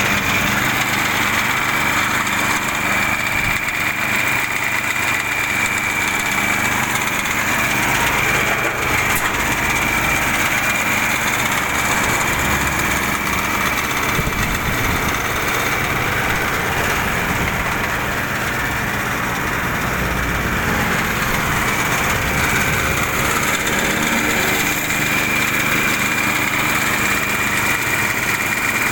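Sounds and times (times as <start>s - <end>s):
small engine running: 0.0s - 28.9s.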